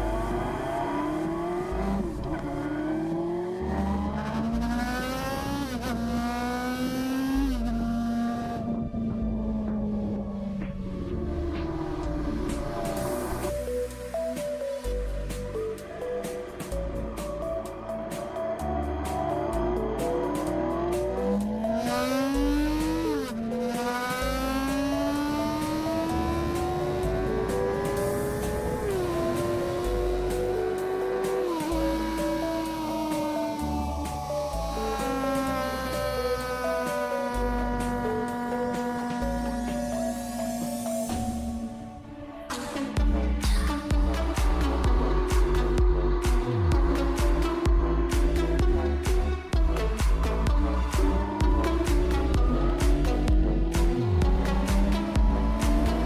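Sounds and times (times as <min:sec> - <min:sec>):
motorcycle engine accelerating: 0:00.0 - 0:13.6, 0:18.1 - 0:56.0
background music with bass line: 0:00.0 - 0:56.0.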